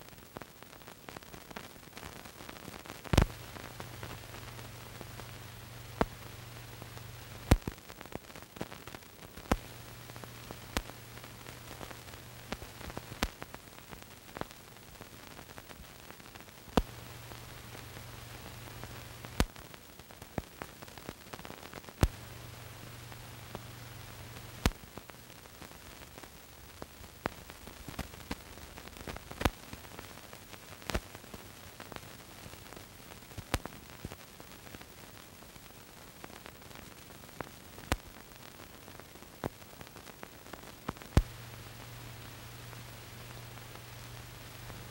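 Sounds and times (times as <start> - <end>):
old film soundtrack hiss: 0.0 - 44.9
sharp clicks and pops: 1.2 - 34.9, 36.2 - 38.2, 39.3 - 44.9.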